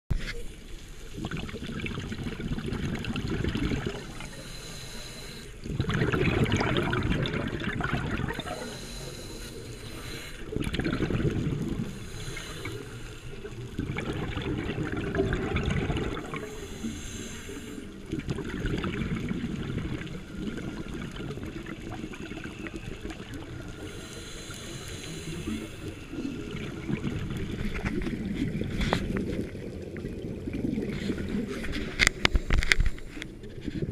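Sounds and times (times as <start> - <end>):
underwater regulator bubbling: 1.1 - 33.9.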